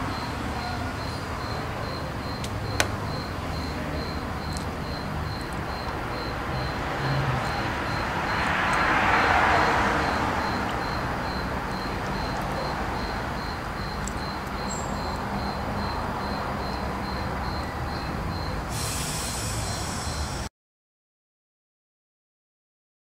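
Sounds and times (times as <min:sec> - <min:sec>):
faint high pulsing chirp: 0:00.0 - 0:08.8, 0:10.0 - 0:20.5
outdoor background noise: 0:00.0 - 0:20.5.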